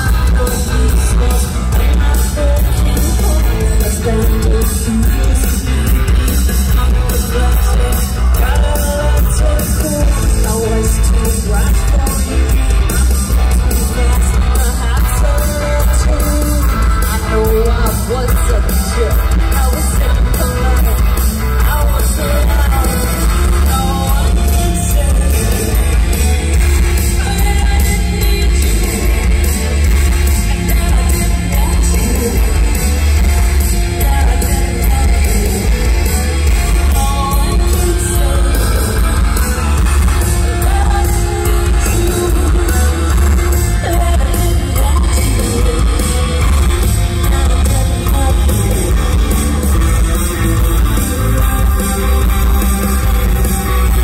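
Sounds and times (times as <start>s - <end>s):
rock band playing live: 0.0s - 54.0s
woman singing lead: 0.0s - 54.0s.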